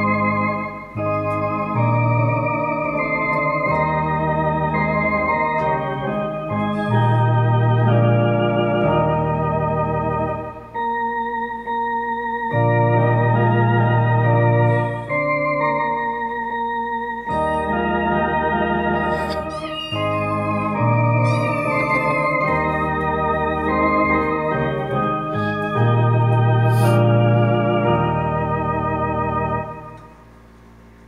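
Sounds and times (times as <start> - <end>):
electronic organ playing a hymn: 0.0 - 31.0.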